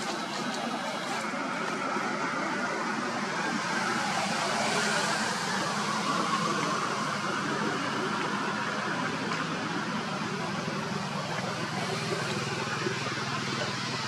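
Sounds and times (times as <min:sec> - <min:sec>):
steady ambient hiss: 0:00.0 - 0:14.0.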